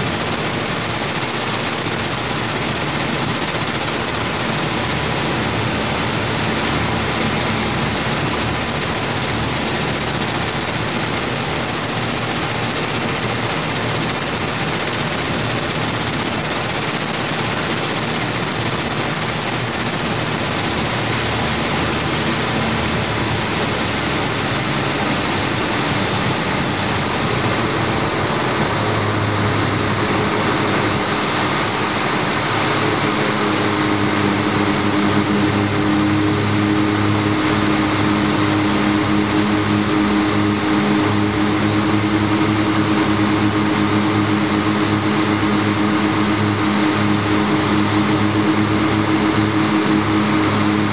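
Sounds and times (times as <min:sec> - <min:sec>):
powerboat engine and water rush: 0:00.0 - 0:50.9.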